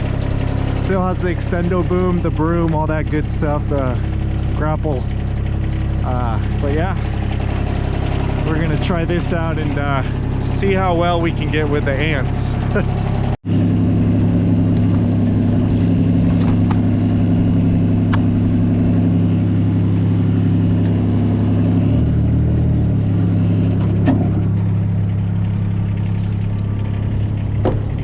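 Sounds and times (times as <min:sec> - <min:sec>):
loader engine running: 0:00.0 - 0:28.0.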